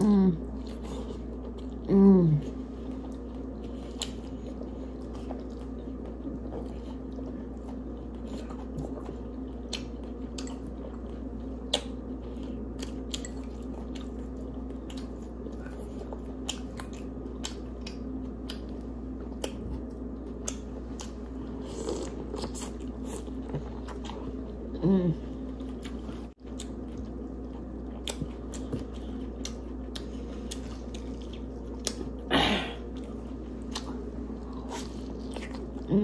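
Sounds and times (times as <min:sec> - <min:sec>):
steady low hum: 0:00.0 - 0:36.0
wet chewing and smacking: 0:02.6 - 0:24.7, 0:25.5 - 0:35.9.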